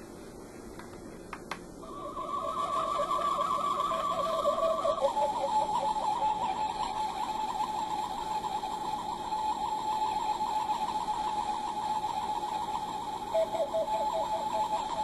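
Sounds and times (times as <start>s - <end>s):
electronic scanning effect: 1.8s - 15.0s.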